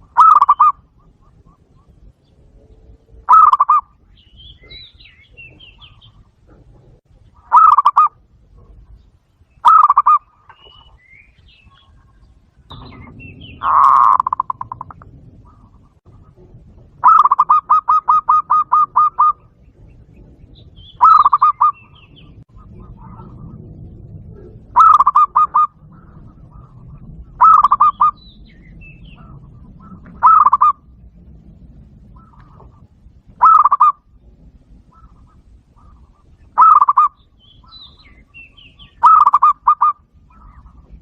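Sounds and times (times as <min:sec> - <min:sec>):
dove cooing rapidly: 0:00.0 - 0:02.3, 0:02.9 - 0:09.0, 0:09.6 - 0:31.0, 0:32.1 - 0:34.1, 0:34.8 - 0:41.0
faint bird chirps: 0:00.0 - 0:30.9, 0:32.1 - 0:41.0.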